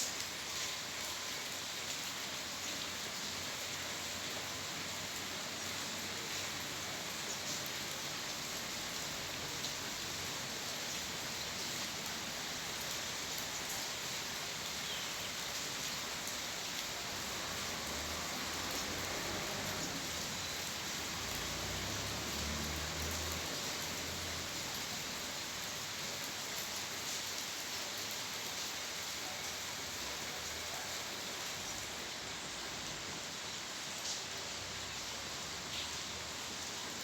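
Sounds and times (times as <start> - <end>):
steady rain pattering: 0.0 - 37.0.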